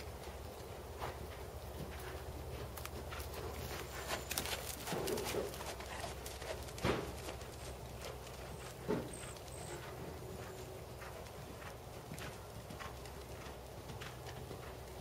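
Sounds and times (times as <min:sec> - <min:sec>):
hoofbeats on dirt: 0:00.0 - 0:15.0.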